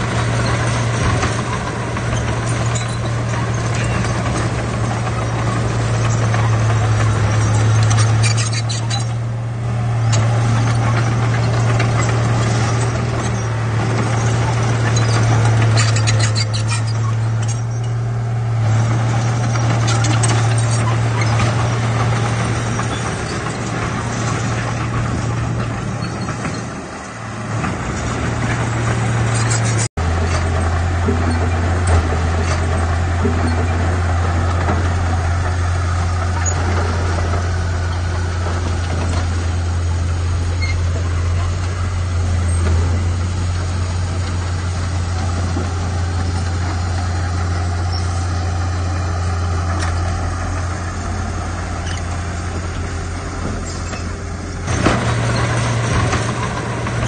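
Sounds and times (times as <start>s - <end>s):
bulldozer engine humming: 0.0s - 57.0s
dump truck engine humming: 0.0s - 57.0s
rocks unloading: 0.0s - 57.0s.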